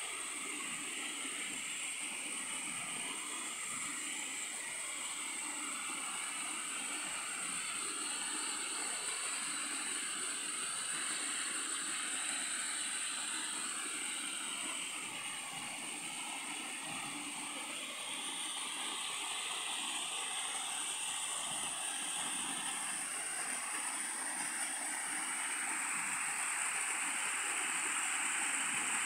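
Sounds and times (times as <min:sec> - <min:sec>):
high-pitched hiss: 0:00.0 - 0:29.0
stream rushing over rocks: 0:00.2 - 0:29.0.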